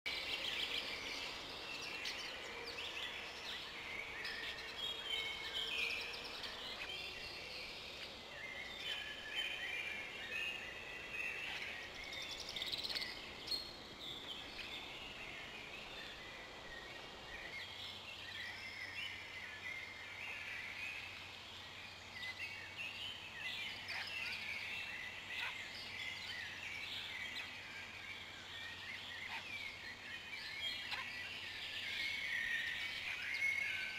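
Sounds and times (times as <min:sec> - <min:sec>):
songbirds singing: 0:00.1 - 0:33.9.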